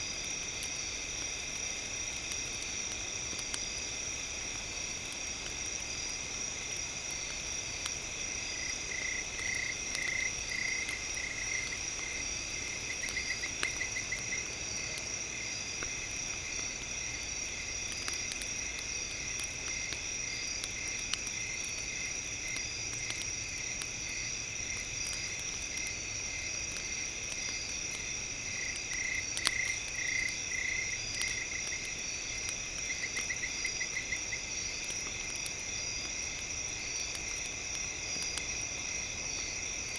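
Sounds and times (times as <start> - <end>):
crackling campfire with pops: 0.0 - 39.9.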